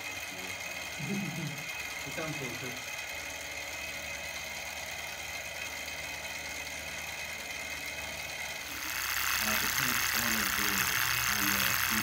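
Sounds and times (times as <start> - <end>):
engine high-pitched mechanical whir: 0.0 - 12.0.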